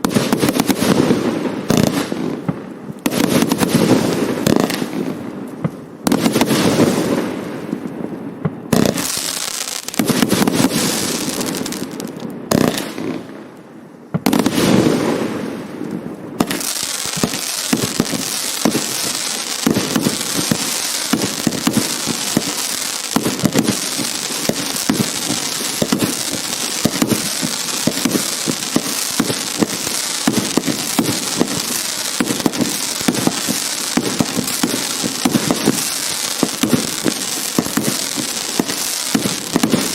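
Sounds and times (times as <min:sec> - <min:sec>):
firework bursts: 0:00.0 - 0:07.6, 0:08.4 - 0:13.5, 0:14.2 - 0:39.9
firework crackling pops: 0:00.0 - 0:39.9.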